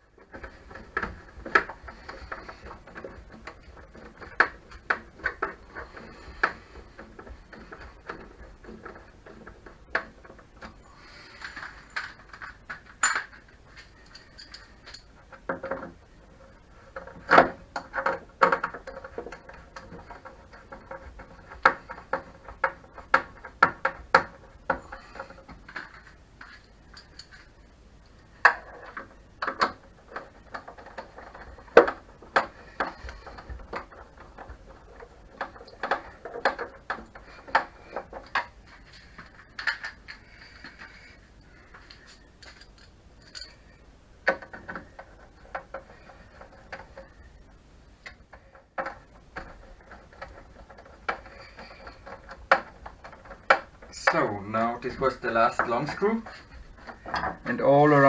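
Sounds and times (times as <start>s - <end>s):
small knocks: 0.0s - 58.0s.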